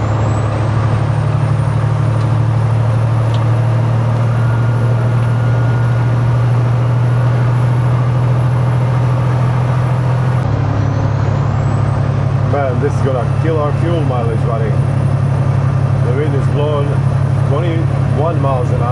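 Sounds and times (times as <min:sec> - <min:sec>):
road and wind noise: 0:00.0 - 0:18.9
truck diesel engine droning: 0:00.0 - 0:18.9.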